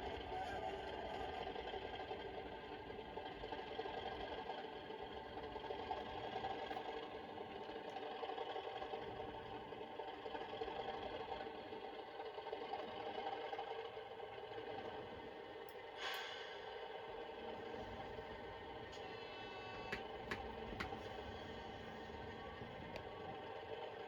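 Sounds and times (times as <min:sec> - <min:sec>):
diesel engine sound from small speaker: 0:00.0 - 0:24.0.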